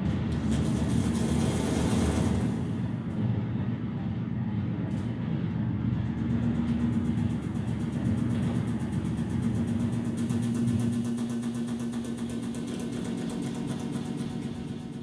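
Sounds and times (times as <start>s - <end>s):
rumbling low drone: 0.0s - 15.0s.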